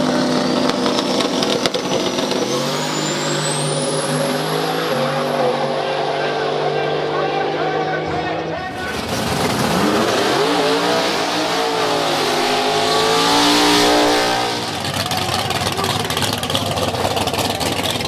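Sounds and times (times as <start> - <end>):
drag car engine revving past: 0.0 - 16.8.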